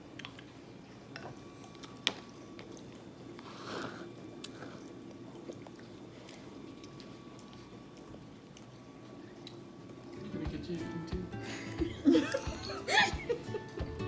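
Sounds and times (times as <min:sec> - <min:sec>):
people eating ice cream: 0:00.0 - 0:14.0.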